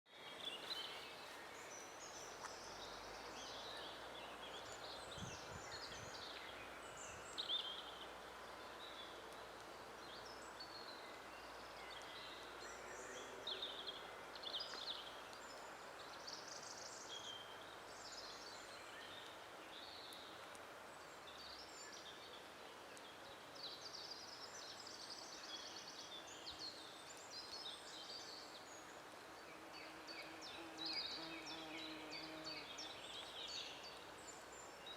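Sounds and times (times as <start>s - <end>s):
faint background hiss: 0.1s - 34.9s
songbirds singing: 0.1s - 34.9s.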